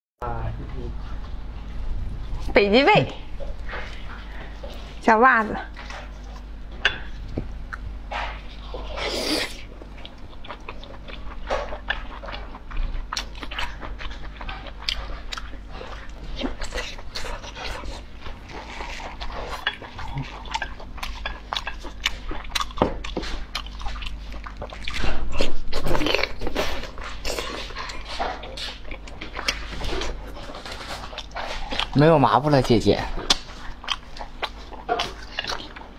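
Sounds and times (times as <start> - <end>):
person chewing and smacking: 3.2 - 5.0, 5.6 - 35.9.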